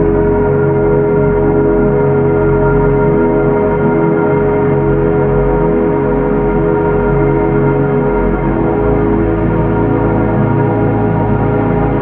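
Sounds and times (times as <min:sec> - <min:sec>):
ambient drone music: 0:00.0 - 0:12.0.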